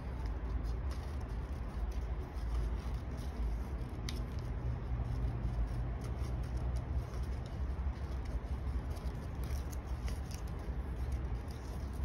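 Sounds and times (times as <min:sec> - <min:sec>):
scissors snipping paper: 0:00.0 - 0:12.0.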